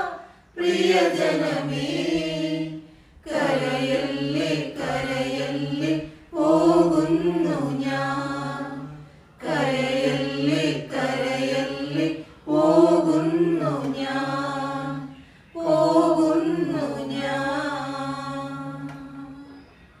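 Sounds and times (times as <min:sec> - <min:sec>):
group singing a hymn: 0:00.0 - 0:19.7.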